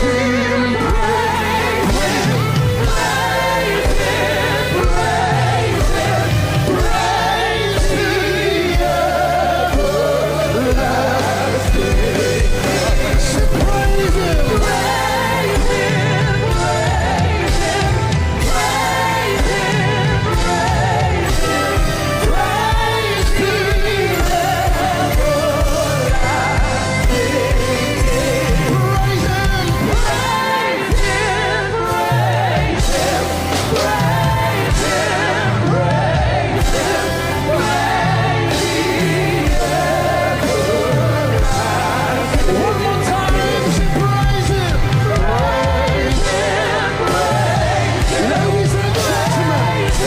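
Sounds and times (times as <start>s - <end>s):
band playing: 0.0s - 50.0s
person singing gospel: 0.0s - 50.0s.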